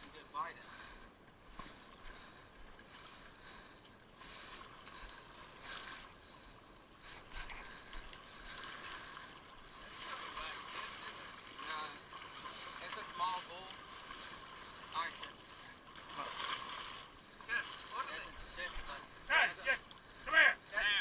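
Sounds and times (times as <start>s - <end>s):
water lapping at shoreline: 0.0s - 21.0s.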